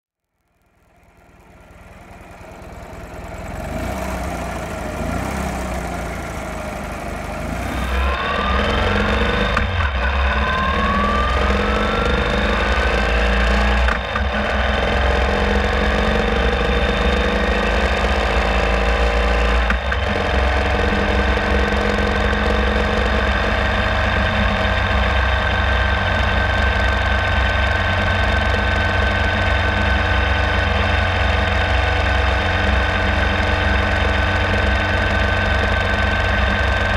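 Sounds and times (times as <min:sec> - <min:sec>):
motorcycle engine accelerating: 0:00.4 - 0:36.9.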